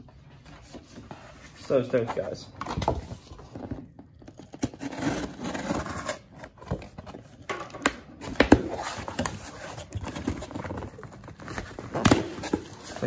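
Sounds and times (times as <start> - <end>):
cardboard boxes scraping and rustling: 0.6 - 7.4, 8.2 - 13.0.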